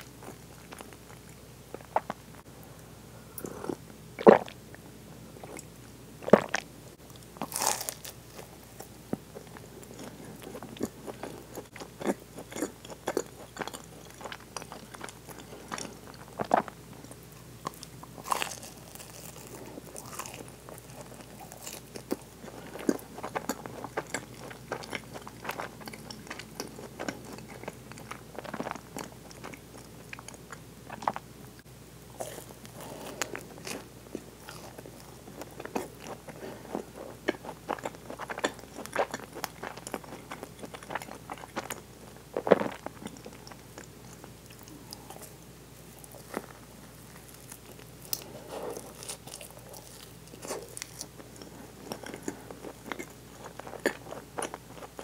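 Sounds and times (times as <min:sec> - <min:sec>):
wet chewing: 0:05.4 - 0:31.2, 0:32.2 - 0:55.0
crunching of pastry coating: 0:06.2 - 0:31.2, 0:32.2 - 0:55.0.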